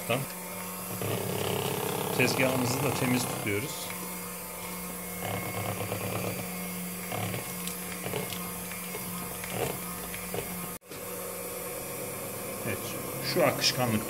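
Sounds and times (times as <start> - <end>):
electric hand mixer whisking batter: 0.0 - 14.0.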